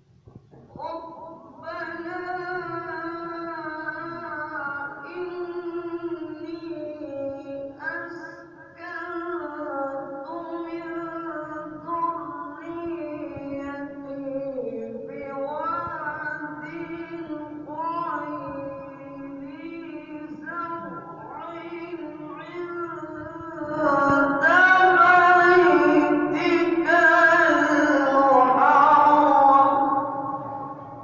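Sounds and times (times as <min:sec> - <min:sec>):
man reciting melodically: 0:00.7 - 0:31.0.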